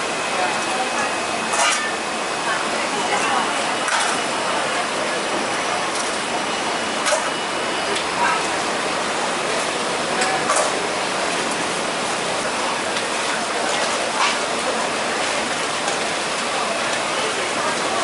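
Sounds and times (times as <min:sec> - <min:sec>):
faint chatter: 0:00.0 - 0:18.0.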